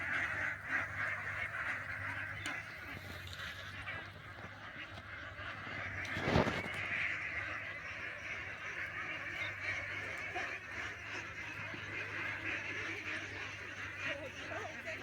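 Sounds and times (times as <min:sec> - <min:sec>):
birds chattering: 0:00.0 - 0:15.0.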